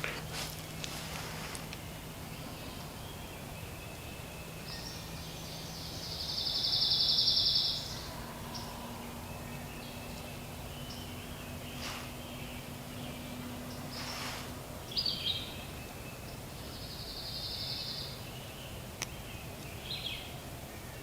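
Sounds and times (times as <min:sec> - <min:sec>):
woodland background hiss: 0:00.0 - 0:21.0
songbird high rapid trill: 0:01.4 - 0:21.0.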